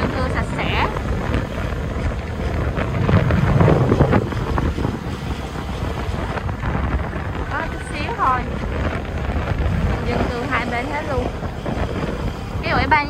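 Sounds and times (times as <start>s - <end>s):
low engine and road rumble: 0.0s - 13.0s
wind buffeting microphone: 0.0s - 13.0s.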